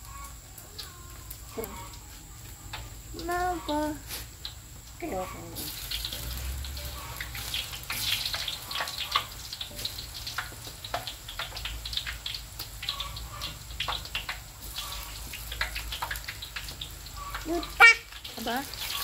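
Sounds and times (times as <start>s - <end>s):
frying in hot oil sizzling: 0.0s - 19.0s
oil crackling and popping: 0.0s - 19.0s.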